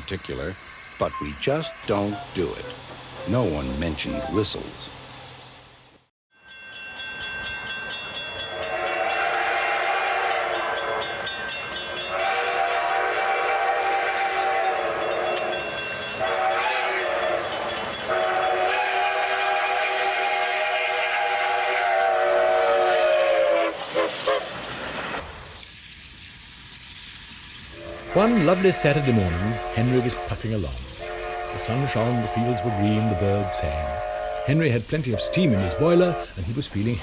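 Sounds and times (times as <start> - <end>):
steam locomotive chime whistle: 0.0 - 4.9, 6.3 - 24.5, 27.7 - 36.5.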